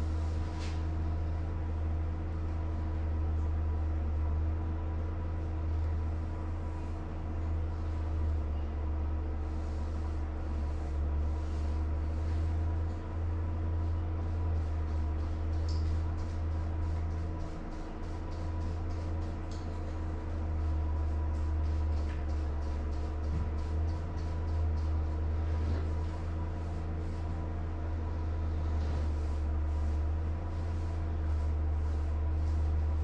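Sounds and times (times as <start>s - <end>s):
paintbrush swishing on drywall: 0.0s - 1.3s, 6.1s - 33.0s
low mechanical hum: 0.0s - 33.0s.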